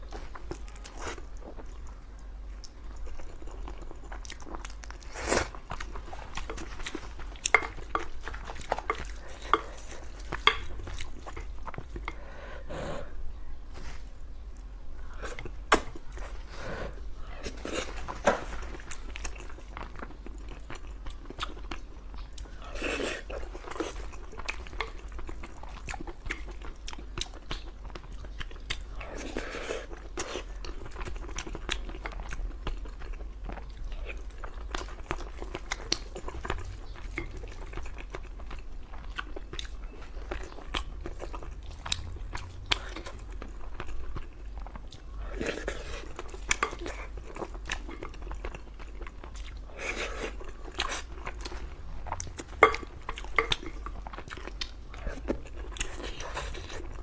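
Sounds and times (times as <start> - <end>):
chewing food: 0.0 - 12.4, 14.3 - 57.0
steady low hum: 0.0 - 57.0.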